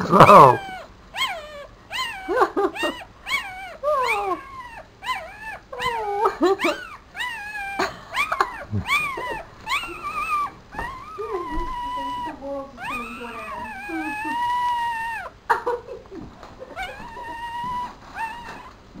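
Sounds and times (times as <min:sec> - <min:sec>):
puppy whimpering and squealing: 0:00.0 - 0:15.4, 0:16.6 - 0:19.0.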